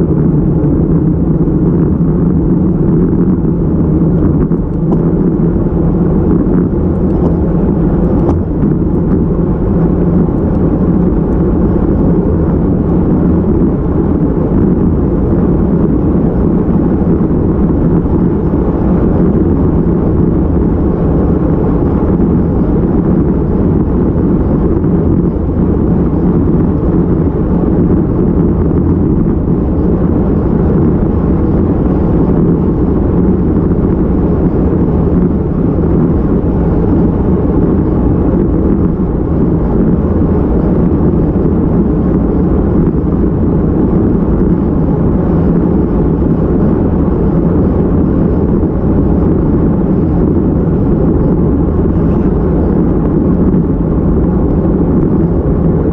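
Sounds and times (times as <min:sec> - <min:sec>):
bike tyre road noise: 0:00.0 - 0:55.9
wind buffeting microphone: 0:00.0 - 0:55.9.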